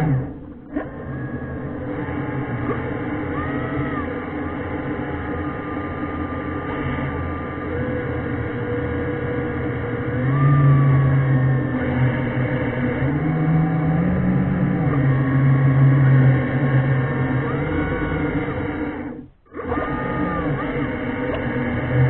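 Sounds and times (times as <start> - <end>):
low hum: 0.0 - 22.0
underwater thruster motors whining: 0.0 - 22.0.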